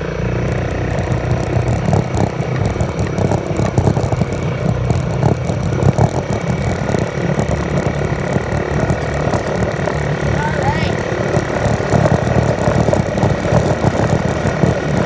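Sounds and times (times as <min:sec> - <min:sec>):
off-road vehicle engine running: 0:00.0 - 0:15.0
knocks and rattles: 0:00.4 - 0:15.0.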